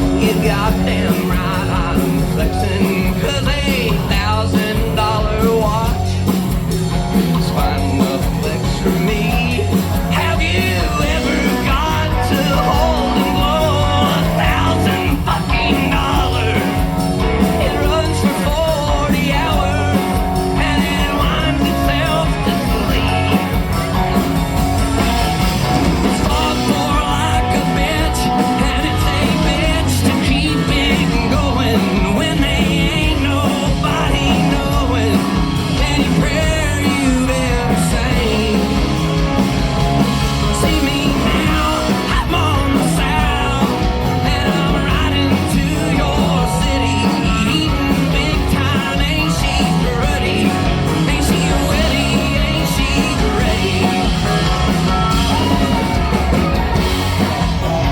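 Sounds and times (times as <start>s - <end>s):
live country-rock band: 0.0s - 57.9s
man singing: 0.0s - 57.9s.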